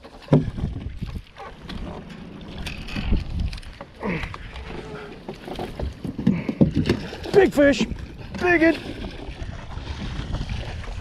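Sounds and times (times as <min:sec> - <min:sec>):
water splashing: 0:00.0 - 0:11.0
wind rumbling on microphone: 0:00.0 - 0:11.0.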